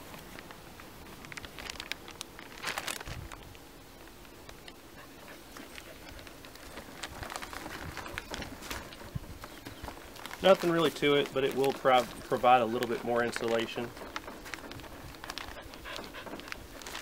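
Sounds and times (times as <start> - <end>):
fabric cover rustling and crinkling: 0.0 - 3.6, 5.3 - 17.0.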